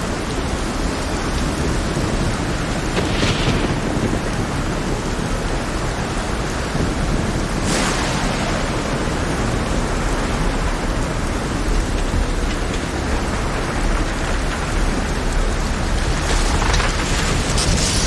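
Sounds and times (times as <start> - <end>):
heavy rain hiss: 0.0 - 18.0
low rumble of thunder: 0.0 - 18.0.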